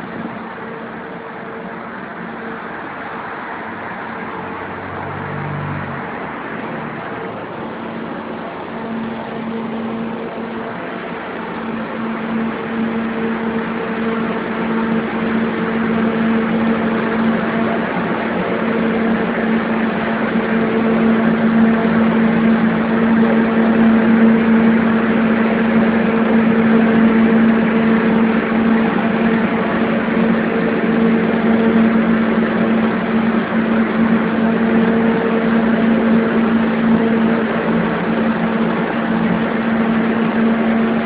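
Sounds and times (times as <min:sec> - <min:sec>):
loud machine drone: 0:00.0 - 0:41.0.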